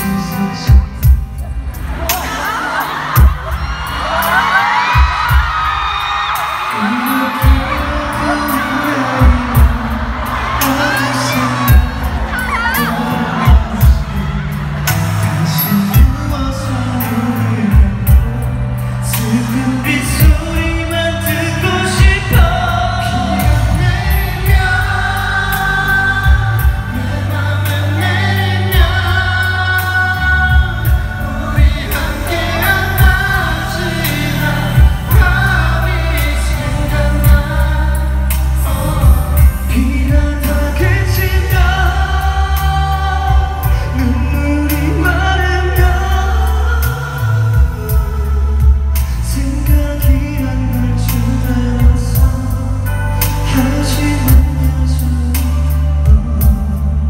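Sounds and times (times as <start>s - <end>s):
amplified band with low bass: 0.0s - 57.0s
man singing a slow ballad: 0.0s - 57.0s.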